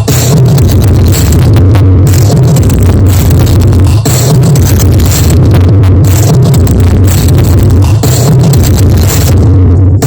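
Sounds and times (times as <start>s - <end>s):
loud music with booming bass: 0.0s - 10.0s.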